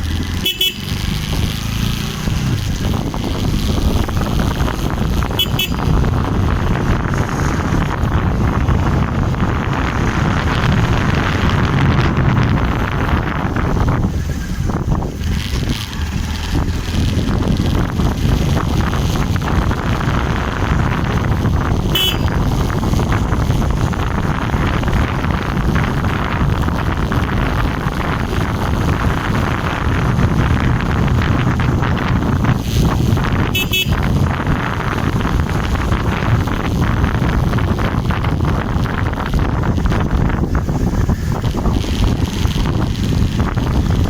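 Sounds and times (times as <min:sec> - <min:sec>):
motorcycle engine running: 0:00.0 - 0:44.0
wind on microphone: 0:00.0 - 0:44.0.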